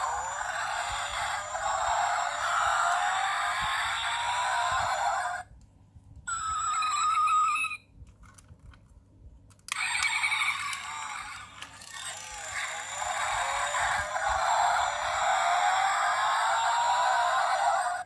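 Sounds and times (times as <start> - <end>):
toy car sound effects: 0.0 - 5.4, 6.3 - 7.8, 9.7 - 18.0.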